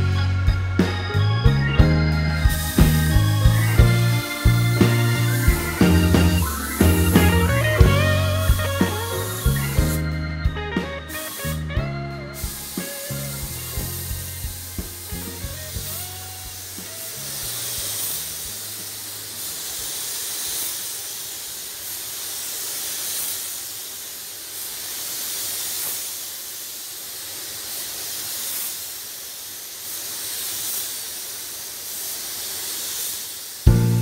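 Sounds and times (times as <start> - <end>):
paint spray gun hissing: 2.4 - 34.0.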